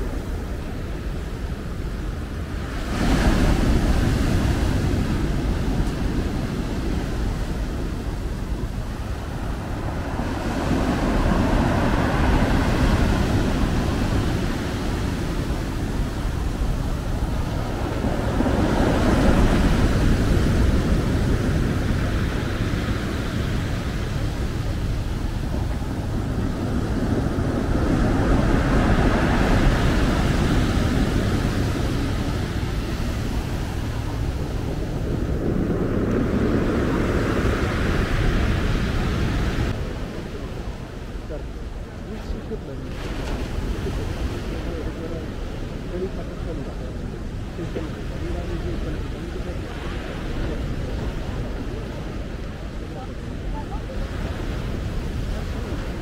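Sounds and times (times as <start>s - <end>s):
waves breaking on shingle beach: 0.0s - 56.0s.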